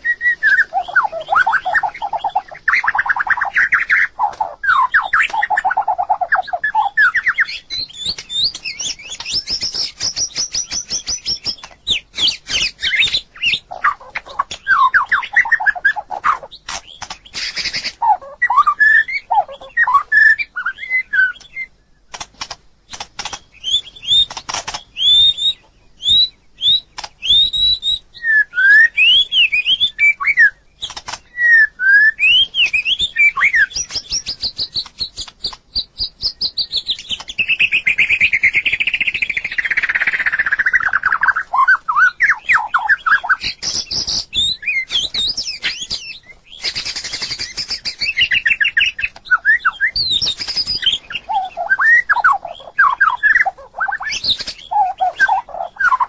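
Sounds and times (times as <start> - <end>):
bird whistling and clicking: 0.0 - 56.0.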